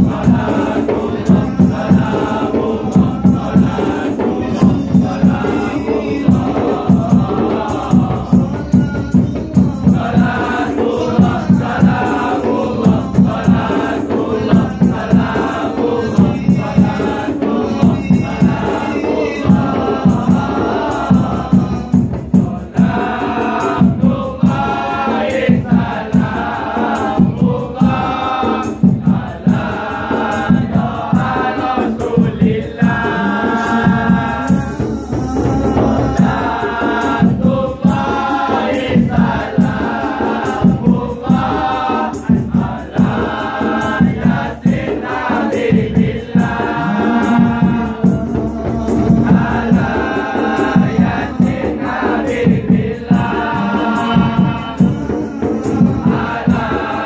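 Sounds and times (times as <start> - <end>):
frame drum beats: 0.0 - 57.0
male voices singing together: 0.0 - 57.0.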